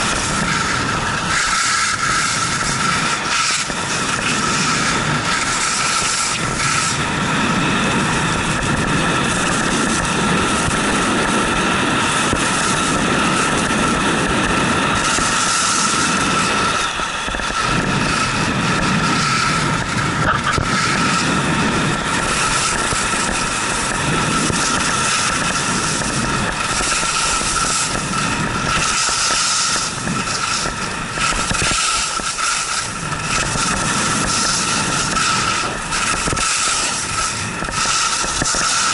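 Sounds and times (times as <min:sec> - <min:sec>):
rushing noise: 0:00.0 - 0:38.9
skis scraping over icy snow: 0:00.0 - 0:38.9.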